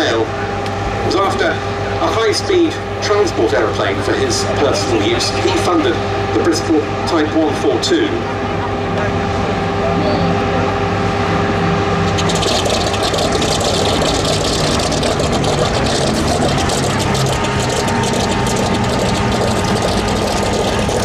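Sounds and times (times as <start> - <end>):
aircraft piston engines idling: 0.0 - 21.0
faint engine whine: 0.0 - 21.0.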